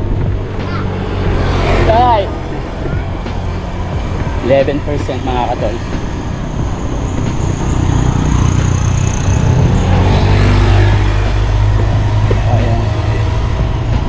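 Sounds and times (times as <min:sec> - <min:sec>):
road rumble: 0:00.0 - 0:14.0
wind buffeting: 0:00.0 - 0:14.0.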